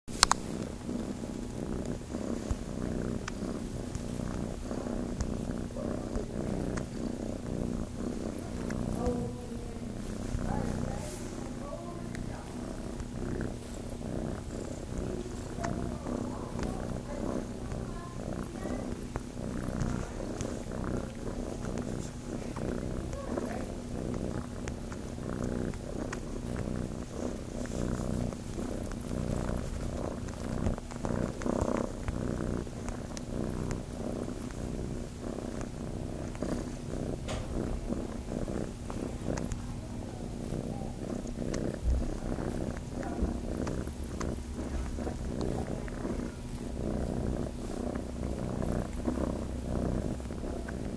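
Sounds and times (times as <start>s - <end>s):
kitten purring: 0.0s - 50.9s
small clicks and rustles: 0.1s - 7.2s, 8.1s - 50.9s.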